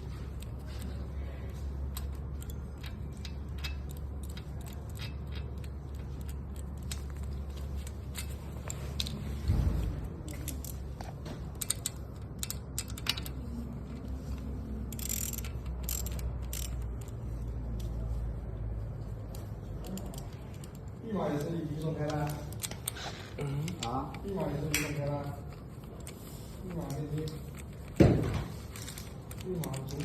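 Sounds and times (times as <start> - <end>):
small parts and tools clicking: 0.0 - 30.0
steady low hum: 0.0 - 30.0.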